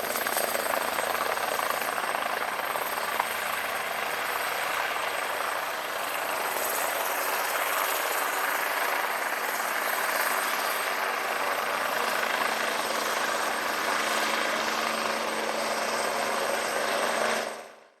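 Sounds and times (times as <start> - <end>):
helicopter rotor rush: 0.0 - 18.0.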